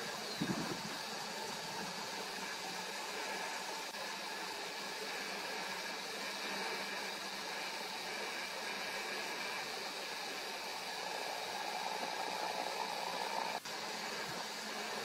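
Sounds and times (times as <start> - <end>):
outdoor ambient hiss: 0.0 - 15.0.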